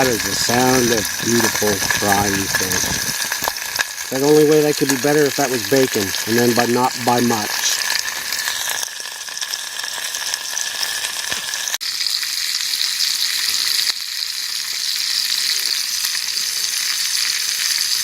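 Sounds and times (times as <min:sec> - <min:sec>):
fish sizzling in a pan: 0:00.0 - 0:18.0.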